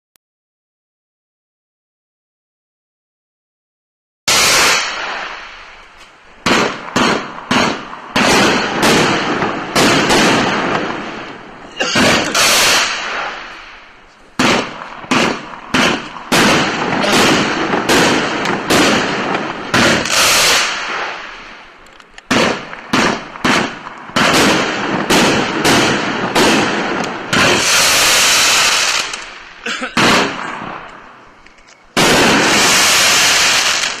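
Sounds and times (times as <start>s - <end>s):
fireworks bangs: 4.3s - 34.0s.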